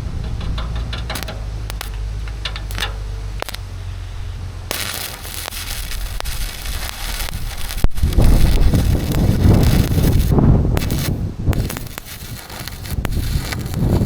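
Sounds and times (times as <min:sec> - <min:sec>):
low rumble: 0:00.0 - 0:14.0
sharp metallic clicks: 0:00.2 - 0:03.7, 0:04.7 - 0:14.0
welding arc crackling and hissing: 0:00.6 - 0:04.0, 0:04.6 - 0:14.0.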